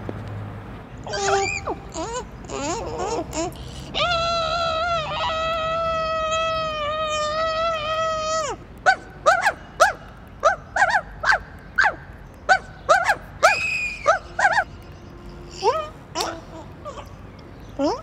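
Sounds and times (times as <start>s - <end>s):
cartoonish voice squeaking: 1.0s - 11.4s, 12.5s - 17.2s
cartoonish voice wailing: 1.1s - 10.9s, 12.5s - 17.2s.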